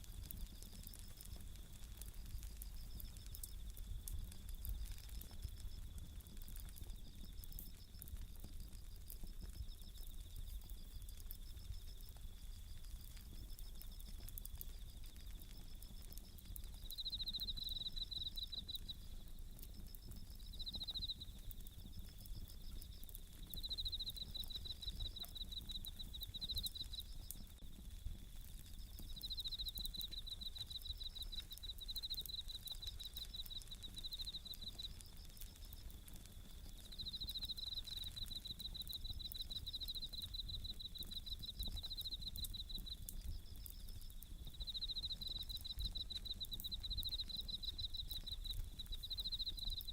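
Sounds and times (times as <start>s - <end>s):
campfire crackling: 0.0s - 49.9s
crickets chirping: 0.0s - 49.9s.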